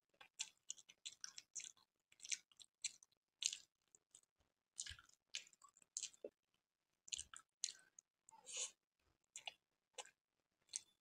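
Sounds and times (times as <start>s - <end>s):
chewing mouth sounds: 0.2s - 6.4s, 7.1s - 11.0s.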